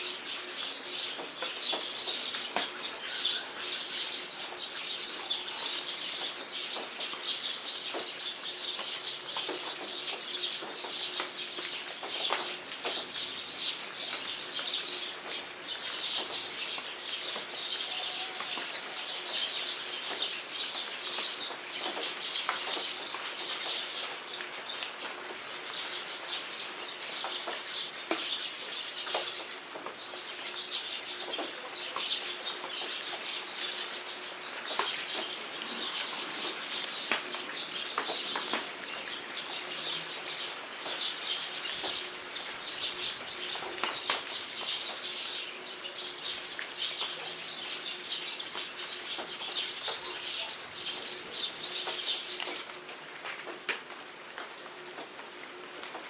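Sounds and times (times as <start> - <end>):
small birds chirping: 0.0 - 52.8
raindrops pattering: 0.0 - 56.0.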